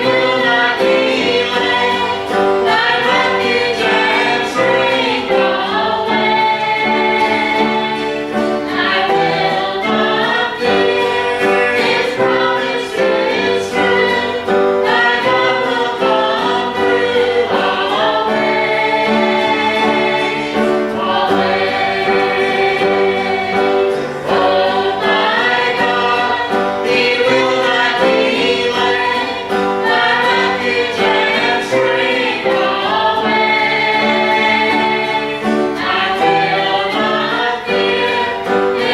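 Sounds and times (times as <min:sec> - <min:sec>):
group singing gospel song: 0:00.0 - 0:38.9
piano accompaniment: 0:00.0 - 0:38.9.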